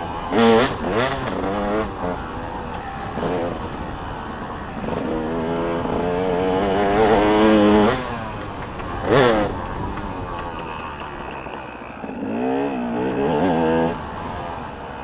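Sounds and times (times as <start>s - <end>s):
dirt bike engines revving: 0.0s - 15.0s
dirt bike passing by: 0.0s - 15.0s.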